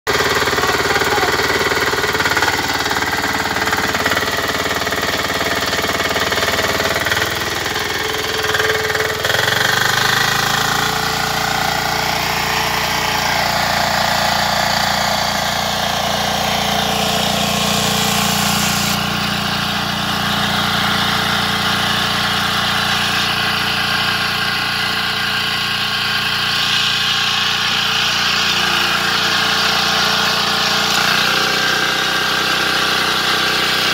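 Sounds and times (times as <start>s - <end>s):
tiller engine running: 0.0s - 33.9s.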